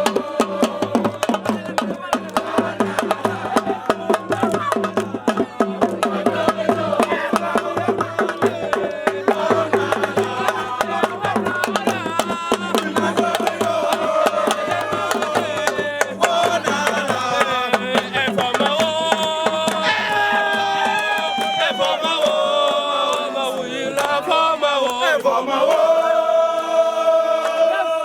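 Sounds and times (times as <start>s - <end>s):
fast dense drumming: 0.0s - 22.8s
voices singing: 0.0s - 28.0s.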